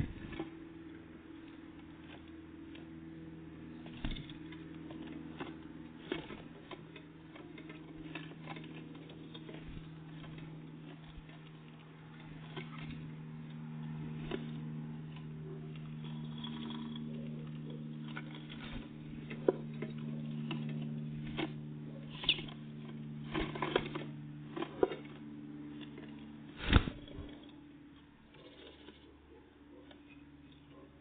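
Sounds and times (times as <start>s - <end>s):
birds pecking and landing: 0.0s - 31.0s
steady low hum: 0.0s - 31.0s.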